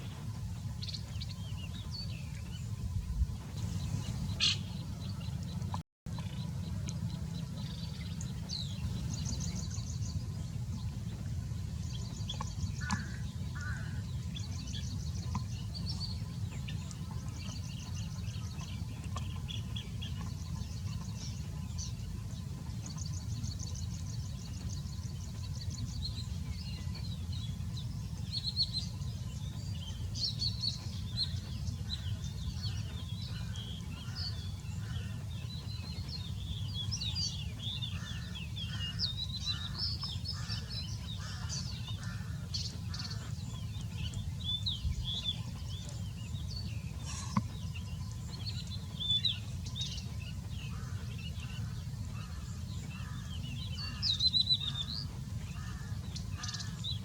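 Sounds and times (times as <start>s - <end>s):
lower bird call: 0.0s - 22.1s, 22.9s - 57.0s
birds chirping: 0.0s - 57.0s
low rumble: 0.0s - 57.0s.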